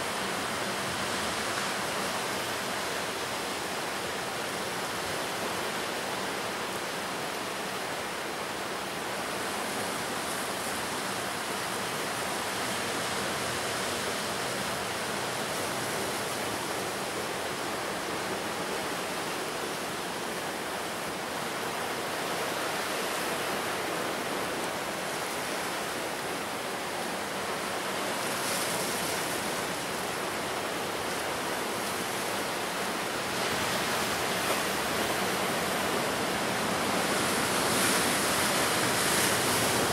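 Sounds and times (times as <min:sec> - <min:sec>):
ocean surf washing in: 0:00.0 - 0:39.9.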